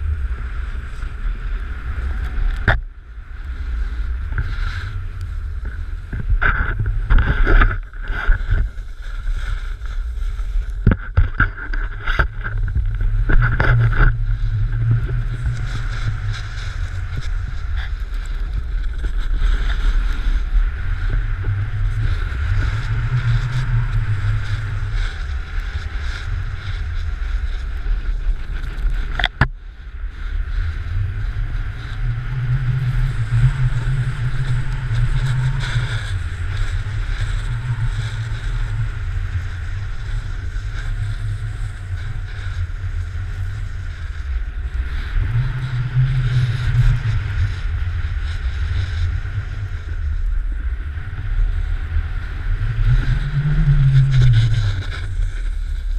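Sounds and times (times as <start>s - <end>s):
snowboard scraping over snow: 0.0s - 55.9s
wind buffeting microphone: 0.0s - 55.9s.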